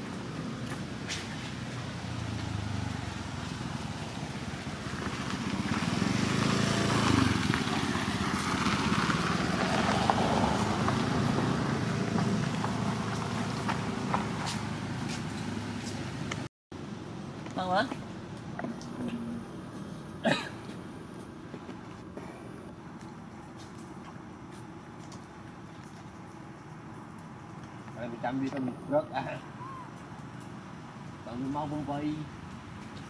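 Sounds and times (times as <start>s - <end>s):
motor vehicle passing: 0.0s - 33.0s
outdoor background noise: 0.0s - 33.0s.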